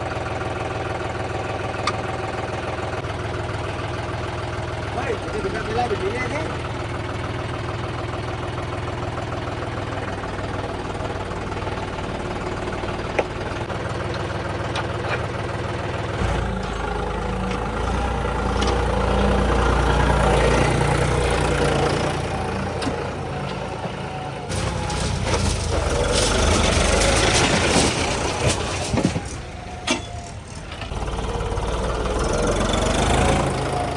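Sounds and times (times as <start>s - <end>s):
diesel tractor engines running: 0.0s - 33.9s.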